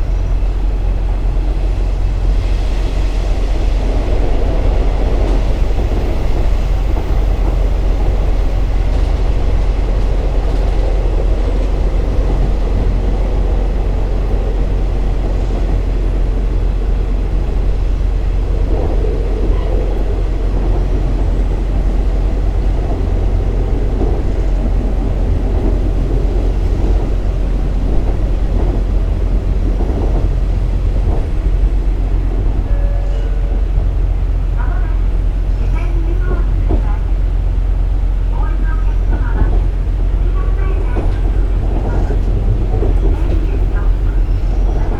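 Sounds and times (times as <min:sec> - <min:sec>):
diesel railcar engine and rail rumble: 0:00.0 - 0:44.9.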